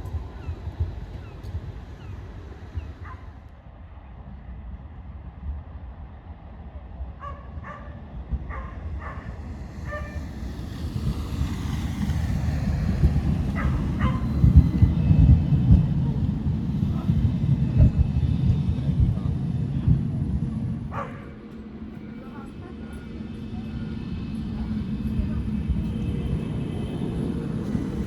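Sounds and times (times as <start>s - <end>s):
tram rumbling past: 0.0s - 28.0s.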